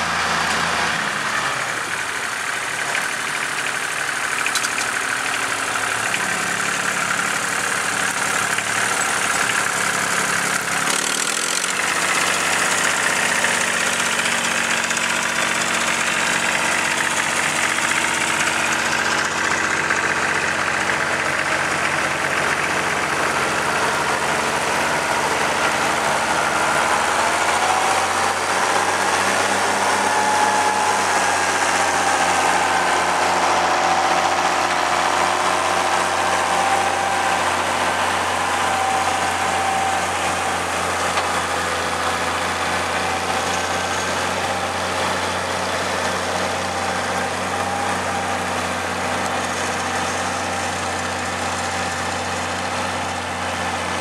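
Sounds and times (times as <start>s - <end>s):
tractor engine under load: 0.0s - 54.0s.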